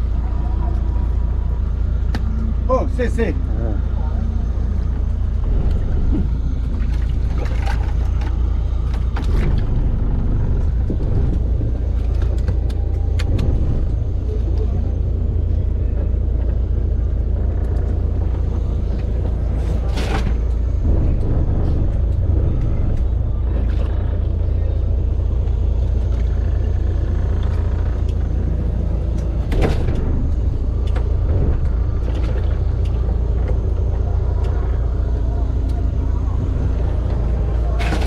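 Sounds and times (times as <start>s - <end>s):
boat engine rumbling: 0.0s - 38.0s.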